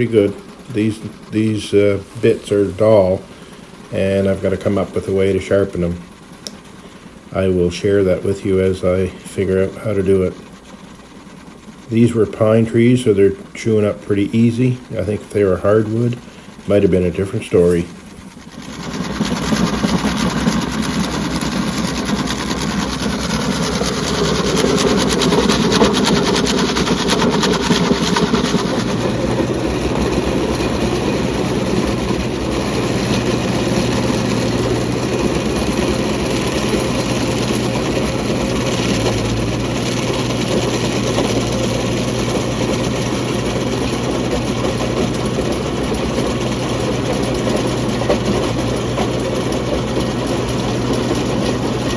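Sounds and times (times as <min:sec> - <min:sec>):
diesel engine running under load: 0:00.0 - 0:51.9
stump grinder cutting wood: 0:00.0 - 0:51.9.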